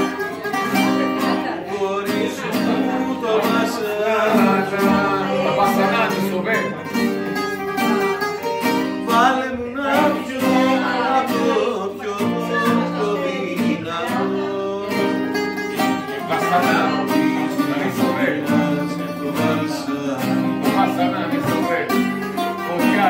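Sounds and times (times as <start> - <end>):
acoustic guitar playing: 0.0 - 23.0
bouzouki playing: 0.0 - 23.0
man singing: 0.0 - 23.0.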